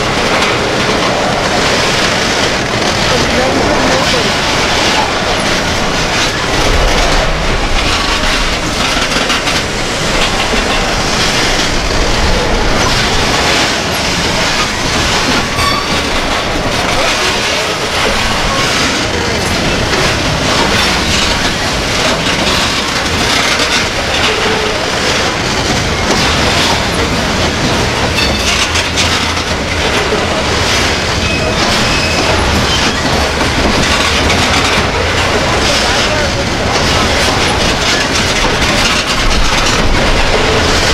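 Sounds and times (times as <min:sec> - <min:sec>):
train wheels clickety-clack: 0:00.0 - 0:40.9
train wheels rumbling on rails: 0:00.0 - 0:40.9.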